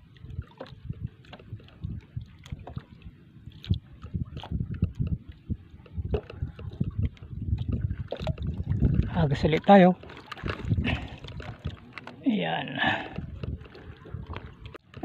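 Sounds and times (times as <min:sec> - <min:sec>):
wind on microphone: 0:00.0 - 0:12.0, 0:12.8 - 0:15.0
waves slapping boat hull: 0:00.0 - 0:15.0.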